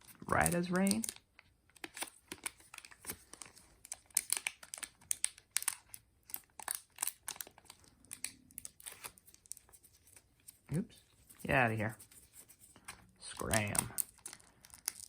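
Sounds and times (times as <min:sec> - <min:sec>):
plastic packaging crinkling: 0:00.0 - 0:10.6, 0:11.3 - 0:15.0.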